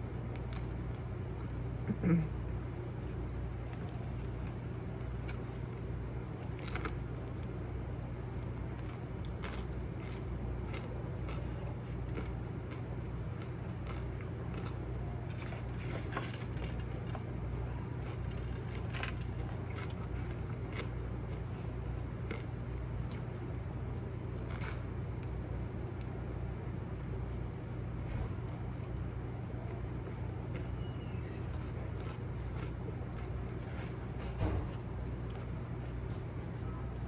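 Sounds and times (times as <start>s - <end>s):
biting and chewing crackles: 0.0s - 1.8s, 2.5s - 37.0s
steady low hum: 0.0s - 37.0s.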